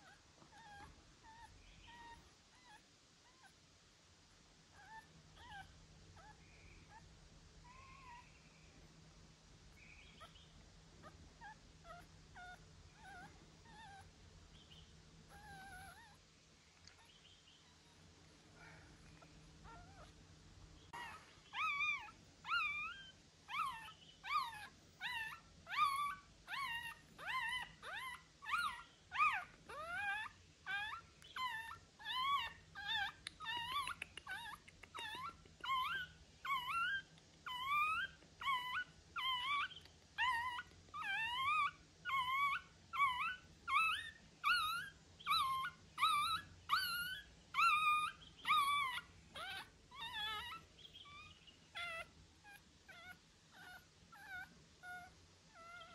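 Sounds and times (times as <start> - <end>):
puppy whimpering: 0.0 - 3.5, 4.8 - 7.0, 7.6 - 8.3, 11.4 - 14.1, 15.3 - 16.2, 19.6 - 20.2, 20.9 - 55.9.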